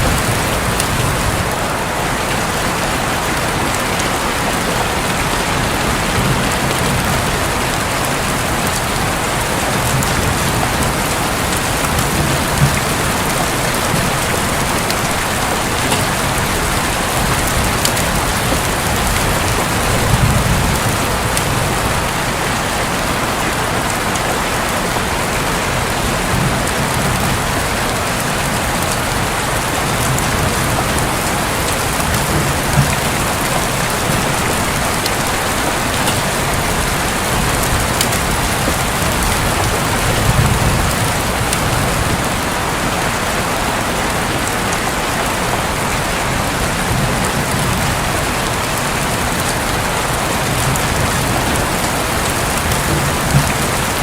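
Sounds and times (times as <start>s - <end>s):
distant thunder rumbling: 0.0s - 3.0s, 3.7s - 22.5s, 25.9s - 42.8s, 46.5s - 54.0s
heavy rain on a roof: 0.0s - 54.0s.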